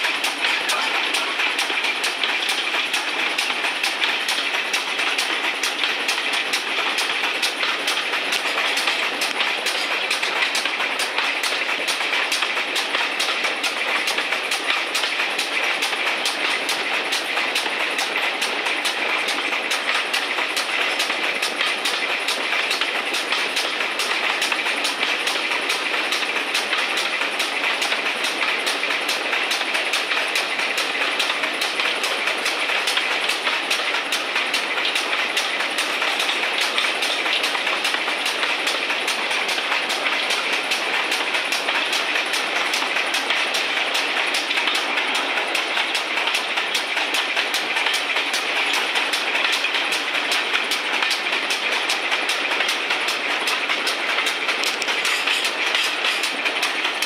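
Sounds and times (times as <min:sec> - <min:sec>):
train wheels clickety-clack on rails: 0:00.0 - 0:57.0.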